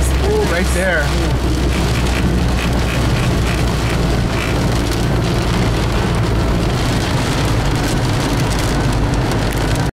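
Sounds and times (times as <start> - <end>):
heavy rain drumming on a car: 0.0 - 9.9
road and engine rumble: 0.0 - 9.9.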